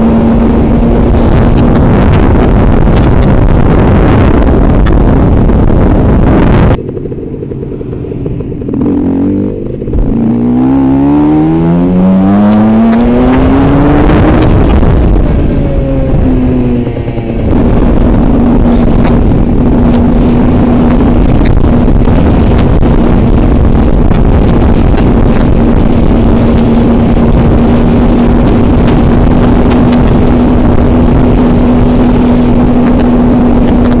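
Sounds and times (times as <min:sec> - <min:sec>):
wind noise on microphone: 0:00.0 - 0:06.8, 0:08.6 - 0:34.0
motorcycle engine: 0:00.0 - 0:34.0.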